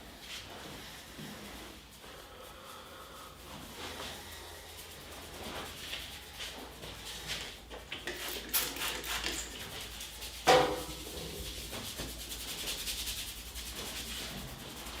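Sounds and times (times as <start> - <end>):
hands rubbing skin and hair: 0.0 - 15.0.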